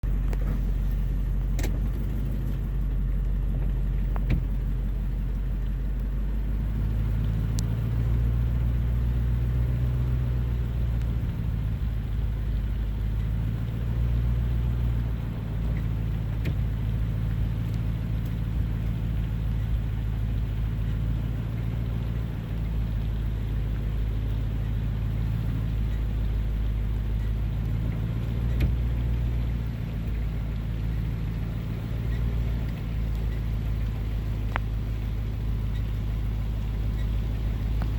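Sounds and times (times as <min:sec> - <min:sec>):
low engine rumble: 0:00.0 - 0:37.9.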